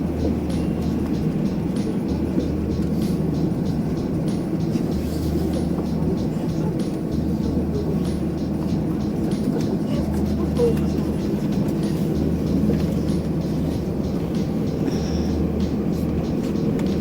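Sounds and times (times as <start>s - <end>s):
car cabin road rumble: 0.0s - 17.0s
music with even beat: 0.0s - 17.0s.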